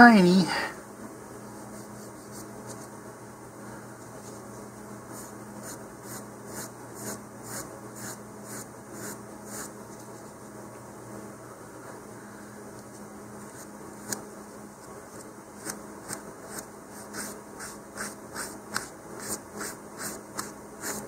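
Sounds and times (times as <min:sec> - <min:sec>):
low electrical hum with hiss: 0:00.0 - 0:21.0.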